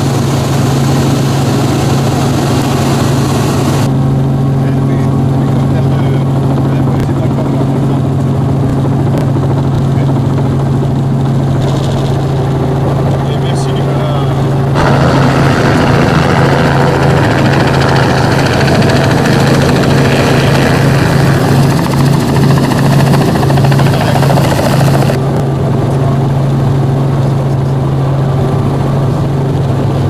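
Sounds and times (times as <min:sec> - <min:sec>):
helicopter rotor and engine: 0:00.0 - 0:30.0.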